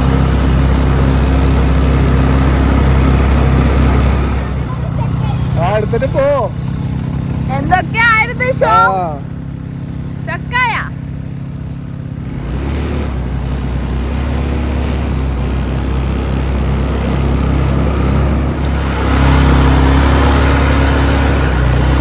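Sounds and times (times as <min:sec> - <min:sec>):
quad bike engine: 0:00.0 - 0:22.0.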